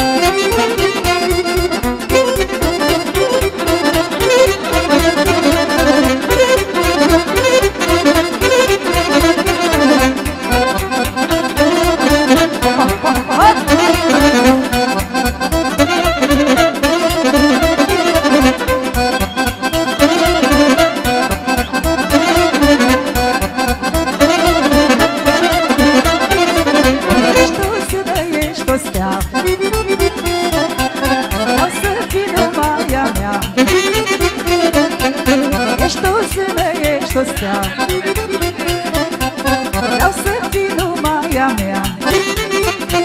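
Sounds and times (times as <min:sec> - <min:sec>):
accordion melody: 0:00.0 - 0:43.0
driving bass beat: 0:00.0 - 0:43.0.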